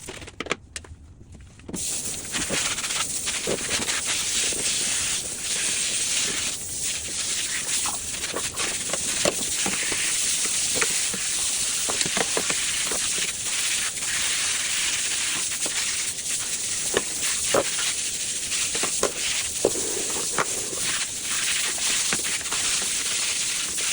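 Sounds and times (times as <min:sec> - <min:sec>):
water running over filter: 0:01.8 - 0:23.9.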